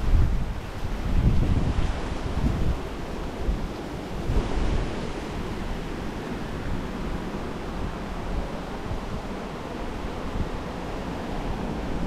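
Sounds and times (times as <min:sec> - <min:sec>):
sea surf: 0:00.0 - 0:12.0
wind buffeting microphone: 0:00.0 - 0:12.0.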